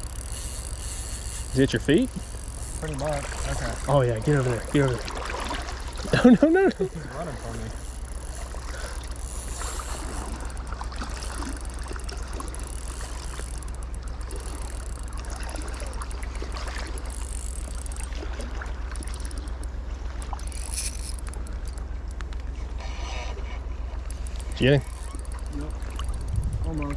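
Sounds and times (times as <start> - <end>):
deep steady rumble: 0.0 - 26.9.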